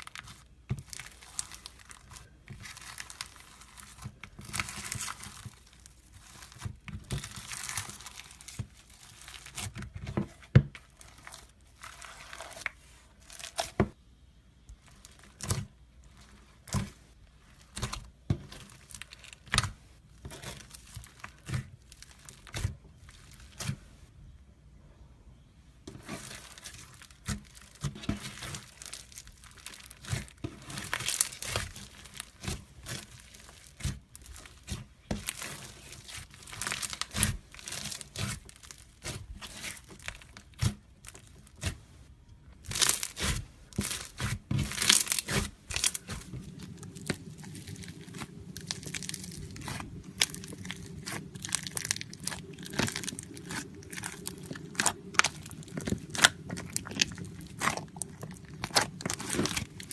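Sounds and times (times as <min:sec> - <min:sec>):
slime crackling and popping: 0:00.0 - 0:14.0, 0:14.7 - 0:23.8, 0:26.0 - 0:41.9, 0:42.5 - 0:59.9.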